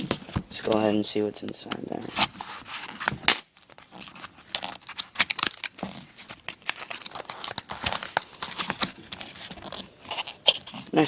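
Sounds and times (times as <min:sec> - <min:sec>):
packaging crinkling and tearing: 0:02.1 - 0:11.0.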